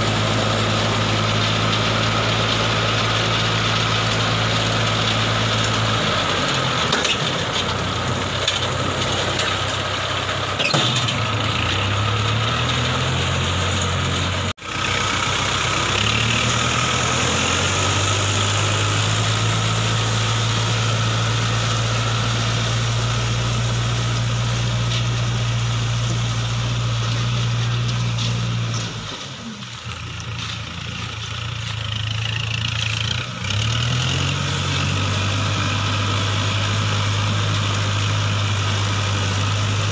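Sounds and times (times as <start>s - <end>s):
baler engine running: 0.0s - 39.9s.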